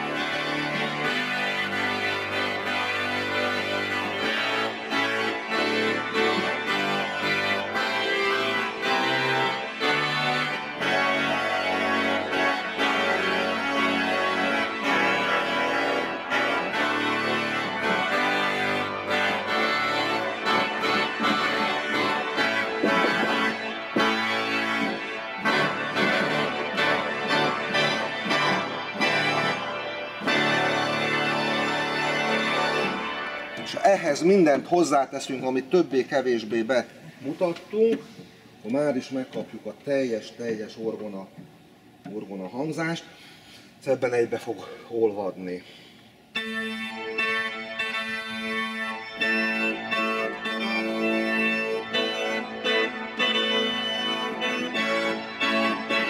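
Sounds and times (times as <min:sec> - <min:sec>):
pipe organ playing reed stops: 0:00.0 - 0:35.6, 0:46.4 - 0:56.0.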